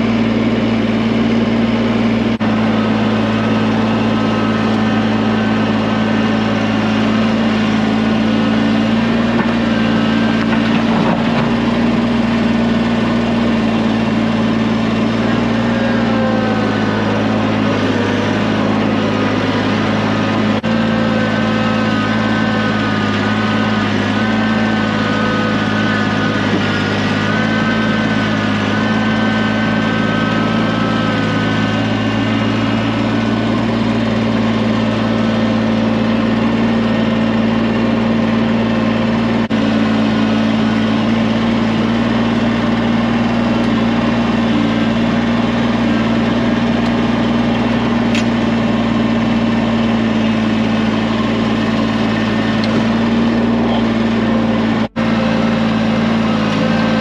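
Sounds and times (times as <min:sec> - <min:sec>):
tractor engine humming: 0:00.0 - 0:57.0.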